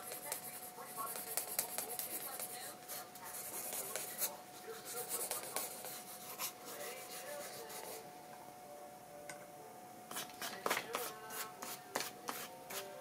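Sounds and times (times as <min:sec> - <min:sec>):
pen scratching on paper: 0:00.0 - 0:08.0, 0:10.1 - 0:13.0.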